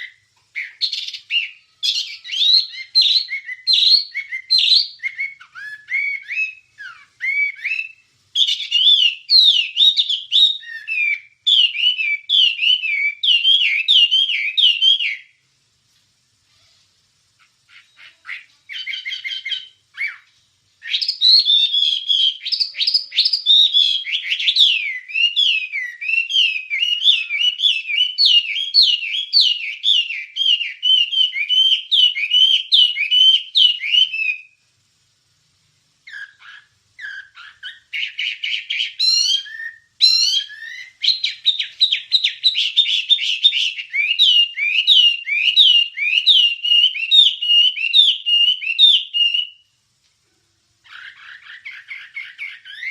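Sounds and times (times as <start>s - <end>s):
songbird chirping and warbling: 0.0s - 15.4s, 16.4s - 34.6s, 36.0s - 49.8s, 50.8s - 52.9s.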